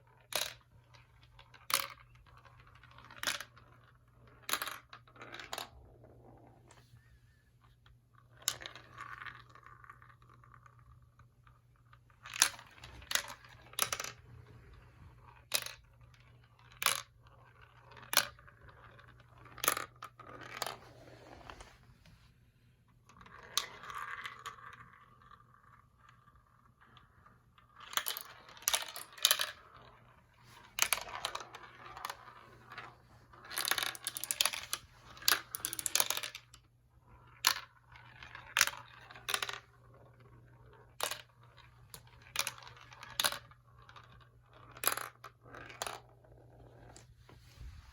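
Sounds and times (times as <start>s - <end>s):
marbles clacking on plastic track: 0.0s - 6.7s, 8.2s - 21.6s, 23.1s - 47.0s
marbles rolling rattle: 0.1s - 6.7s, 8.2s - 21.7s, 23.1s - 47.0s.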